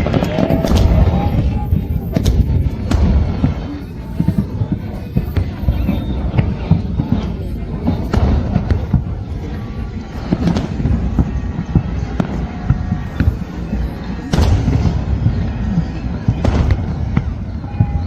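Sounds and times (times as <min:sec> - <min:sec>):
fireworks booming and banging: 0:00.0 - 0:18.0.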